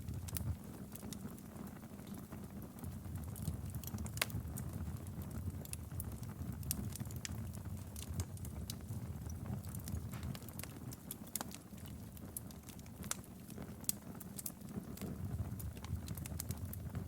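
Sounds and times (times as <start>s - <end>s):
low rumble of flames: 0.0s - 17.0s
wood fire pops and snaps: 0.0s - 17.0s.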